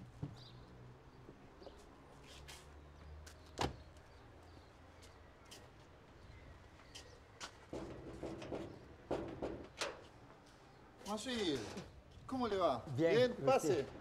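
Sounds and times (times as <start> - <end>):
faint street rumble: 0.0 - 14.0.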